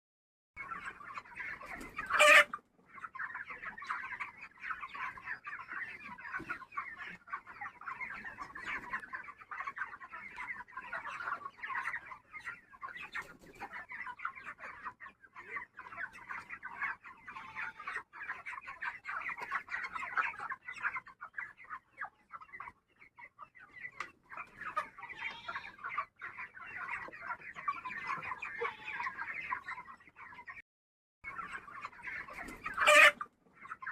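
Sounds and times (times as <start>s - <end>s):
chickens clucking: 0.6s - 30.6s, 31.2s - 33.9s.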